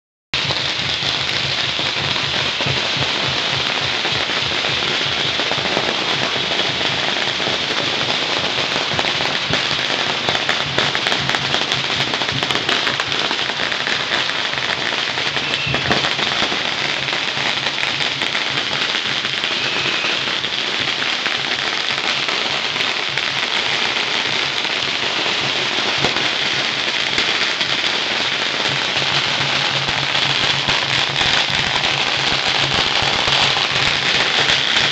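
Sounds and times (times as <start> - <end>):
firecrackers crackling: 0.4 - 34.9.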